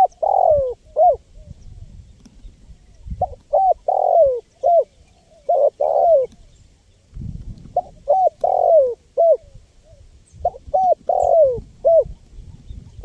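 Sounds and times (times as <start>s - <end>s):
dove cooing: 0.0s - 1.7s, 3.1s - 6.6s, 7.7s - 13.0s.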